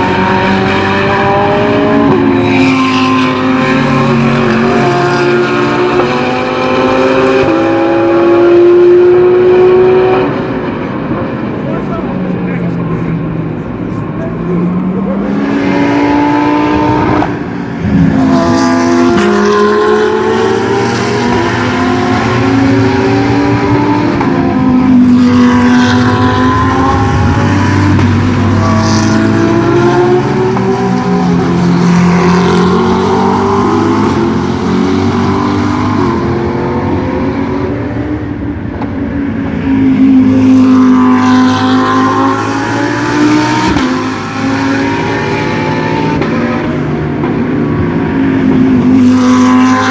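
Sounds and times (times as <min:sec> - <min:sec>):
race car engines shifting gears: 0:00.0 - 0:49.9.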